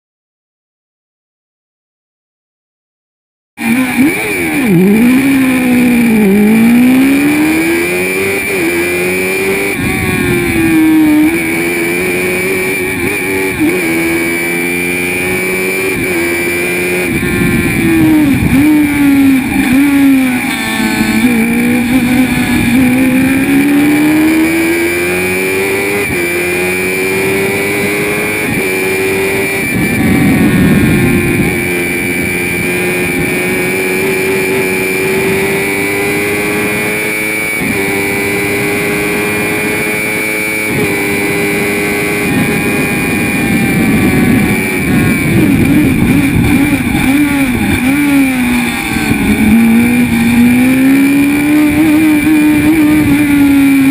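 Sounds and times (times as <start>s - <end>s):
racing car engine revving: 3.6s - 53.9s.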